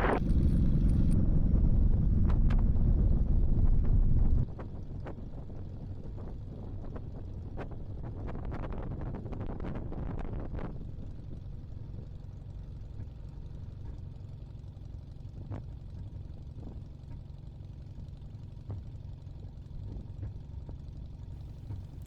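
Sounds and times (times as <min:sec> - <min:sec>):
small aircraft engine droning: 0:00.0 - 0:22.0.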